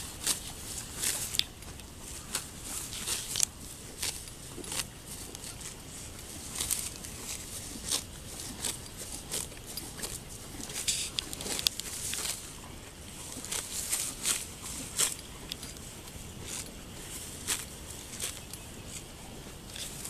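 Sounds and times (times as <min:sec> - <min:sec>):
cow tearing grass: 0:00.0 - 0:20.0.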